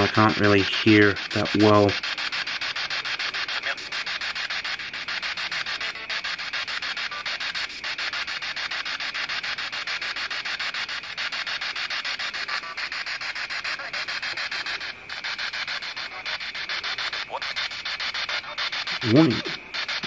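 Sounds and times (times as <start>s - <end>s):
pulsing radio static: 0.0s - 20.0s.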